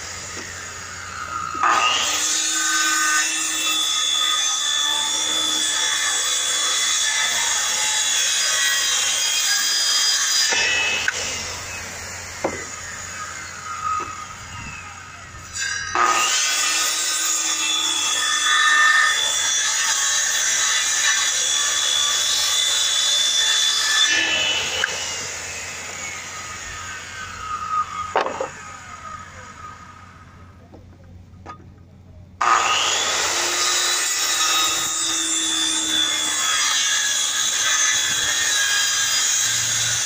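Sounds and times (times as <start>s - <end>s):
circular saw cutting plywood: 0.0s - 31.7s, 32.4s - 40.0s.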